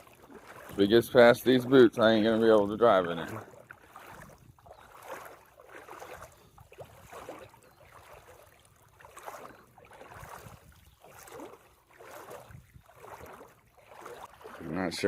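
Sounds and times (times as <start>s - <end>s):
boots wading through water: 0.0s - 15.0s.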